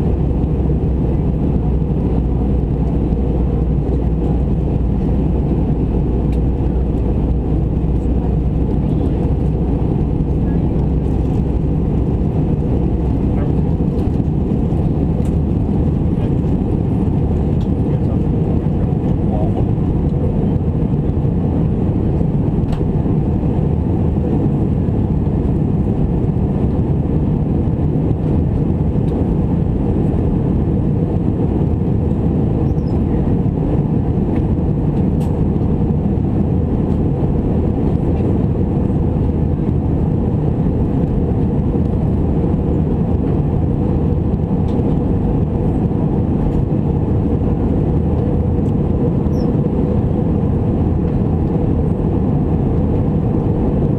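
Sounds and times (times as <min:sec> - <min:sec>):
airplane cabin roar: 0:00.0 - 0:53.9.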